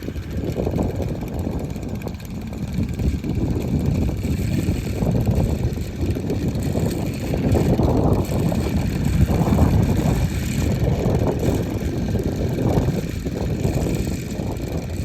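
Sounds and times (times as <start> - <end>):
fan spinning with faint whir: 0.0 - 15.0
wind buffeting microphone: 0.0 - 15.0.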